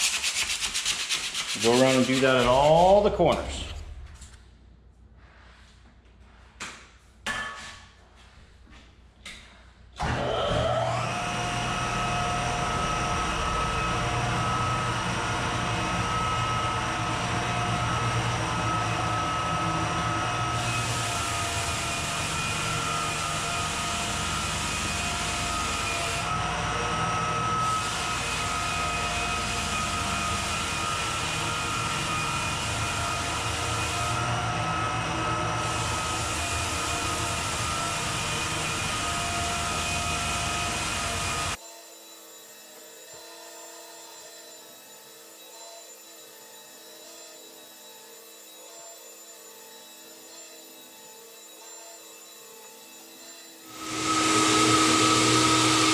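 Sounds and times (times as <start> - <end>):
floor sanding machine whine: 0.0 - 4.4, 10.0 - 55.9.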